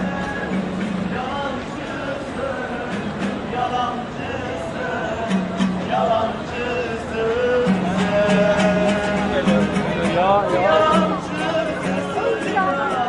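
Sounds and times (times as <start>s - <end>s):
murmur of crowd: 0.0s - 13.0s
music with singing: 0.0s - 13.0s.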